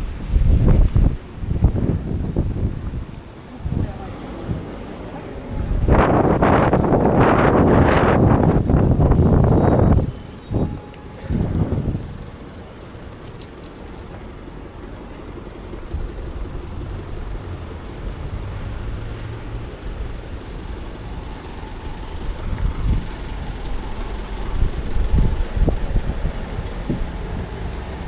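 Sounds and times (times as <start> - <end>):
rumble of passing vehicles: 0.0 - 28.0.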